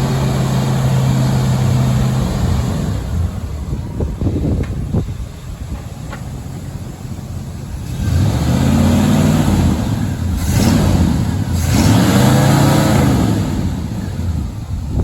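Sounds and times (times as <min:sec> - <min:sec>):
pickup truck engine under load: 0:00.0 - 0:15.0.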